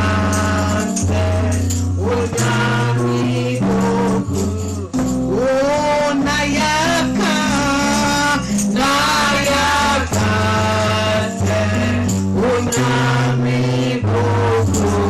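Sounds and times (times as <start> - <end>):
band with bass line: 0.0 - 15.0
gospel singing: 0.0 - 15.0
tambourine: 0.0 - 15.0.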